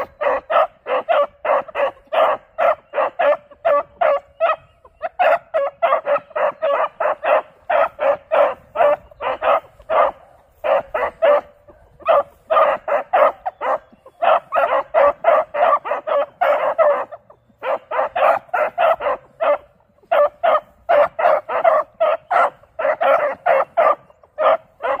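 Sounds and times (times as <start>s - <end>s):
puppies barking: 0.0s - 25.0s.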